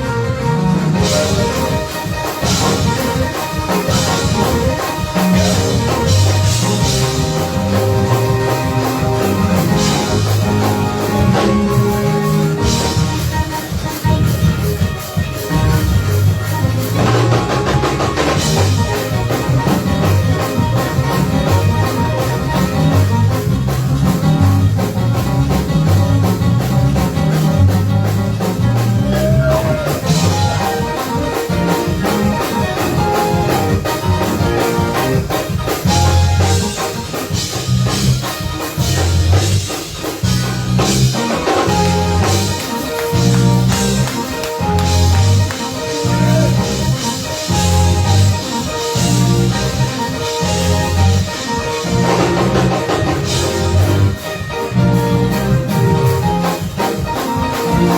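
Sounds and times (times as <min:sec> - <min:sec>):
bass guitar: 0:00.0 - 0:57.9
church band playing: 0:00.0 - 0:57.9
drum kit: 0:00.0 - 0:57.9.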